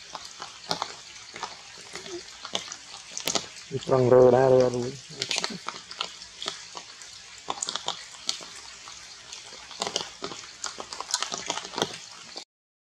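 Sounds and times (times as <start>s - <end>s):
crackles and taps from wet foliage: 0.0s - 12.4s.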